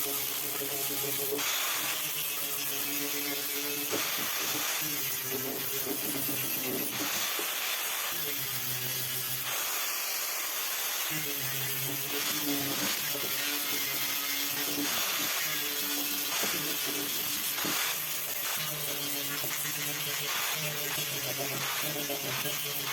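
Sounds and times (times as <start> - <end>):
electric power tool running: 0.0 - 22.9.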